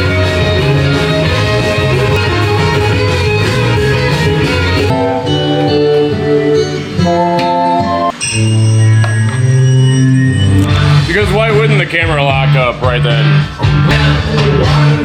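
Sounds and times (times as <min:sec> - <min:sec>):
guitar-led band music: 0:00.0 - 0:15.0.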